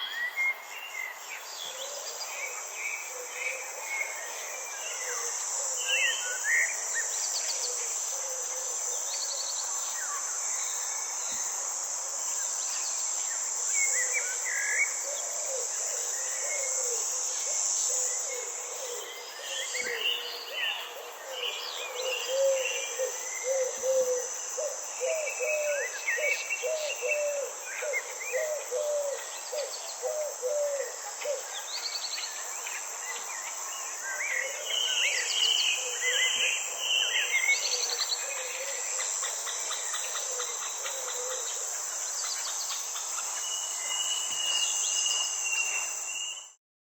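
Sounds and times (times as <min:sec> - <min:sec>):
crickets trilling: 0:00.0 - 0:46.6.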